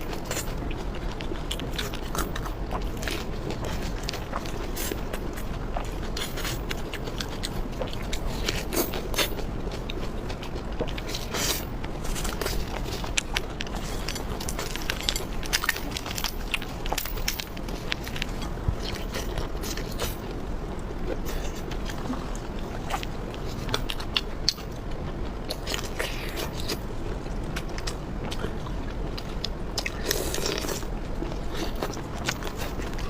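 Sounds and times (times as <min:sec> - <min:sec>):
sharp clicks and crunches: 0:00.0 - 0:20.4, 0:21.0 - 0:33.0
person biting and chewing food: 0:00.0 - 0:33.0.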